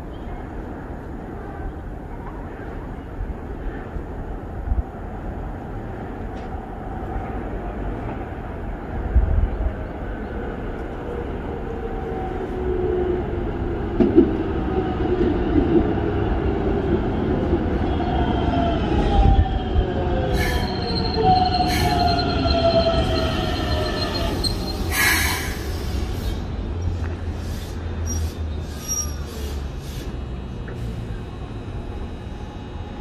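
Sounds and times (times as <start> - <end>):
train wheels rumbling on rails: 2.2 - 33.0.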